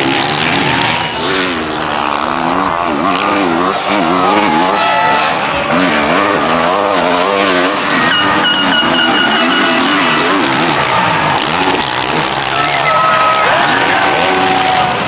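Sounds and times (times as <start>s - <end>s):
motorbike engines revving: 0.0s - 15.0s.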